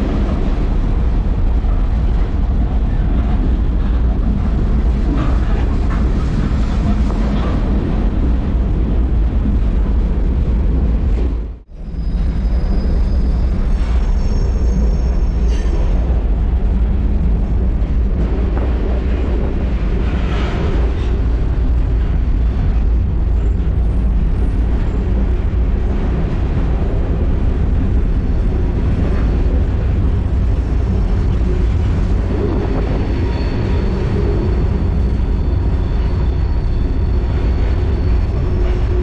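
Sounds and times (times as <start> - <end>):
freight train rumbling: 0.0 - 39.0.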